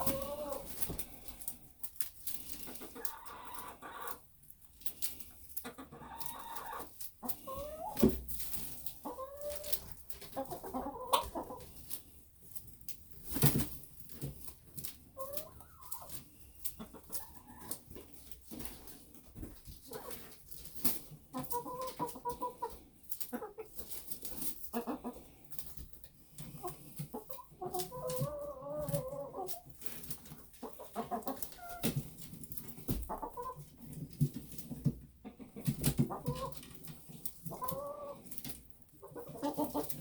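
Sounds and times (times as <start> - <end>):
hens clucking: 0.0 - 12.2, 12.9 - 40.0
hens pecking taps and clicks: 0.0 - 40.0.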